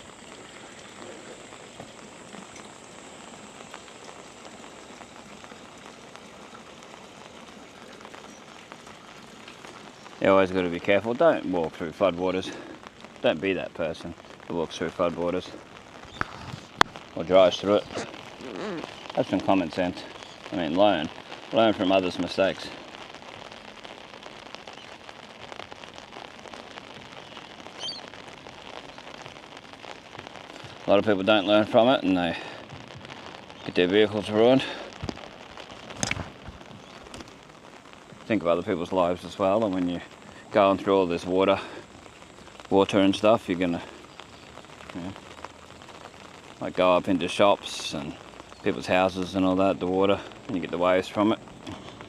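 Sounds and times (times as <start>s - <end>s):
rain hiss: 0.0s - 52.0s
raindrop taps: 0.0s - 52.0s.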